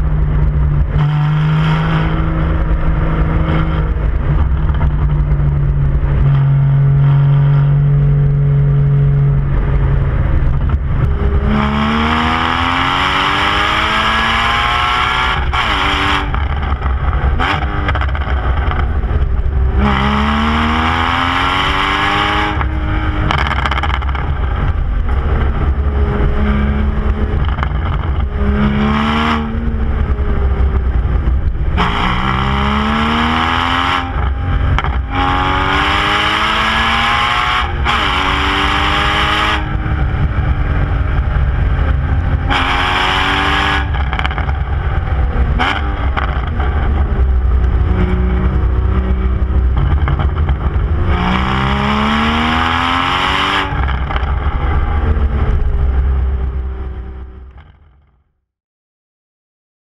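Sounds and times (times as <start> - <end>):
car engine accelerating: 0.0 - 58.1.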